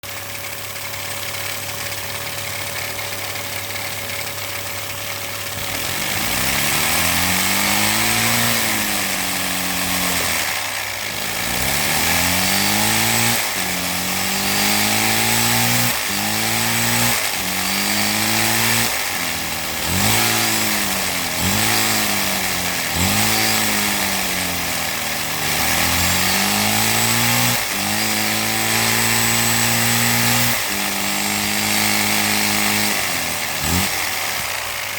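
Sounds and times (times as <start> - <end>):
small vacuum engine buzzing: 0.0 - 34.9.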